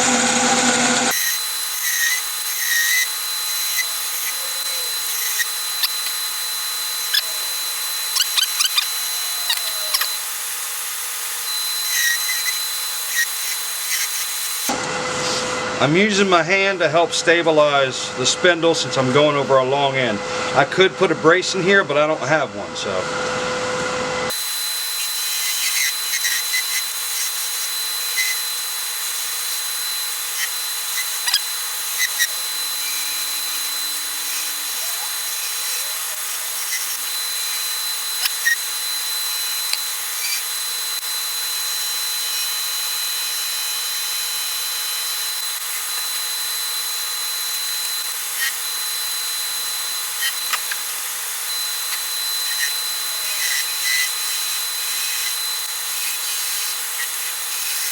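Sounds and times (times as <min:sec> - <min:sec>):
wood lathe whining: 0:00.0 - 0:14.9, 0:24.2 - 0:57.9
tool shaving wood hiss: 0:00.0 - 0:15.5, 0:24.3 - 0:57.9.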